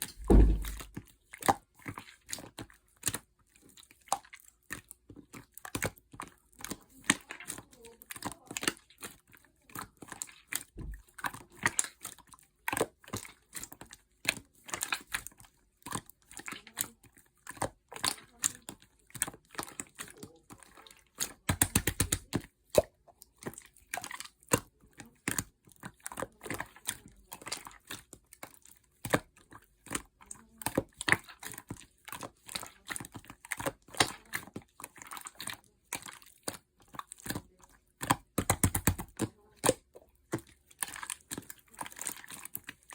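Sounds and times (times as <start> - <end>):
slime squished by hand: 0.0 - 16.9, 20.9 - 42.9.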